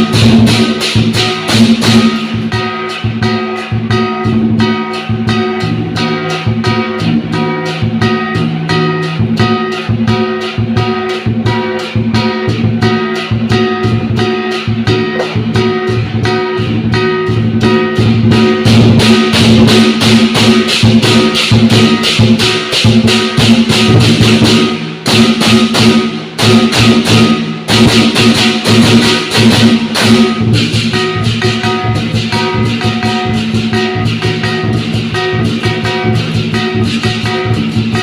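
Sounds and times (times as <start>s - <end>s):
cymbal crashes: 0.0s - 38.0s
drum beat: 0.0s - 38.0s
ringing gong: 0.0s - 38.0s.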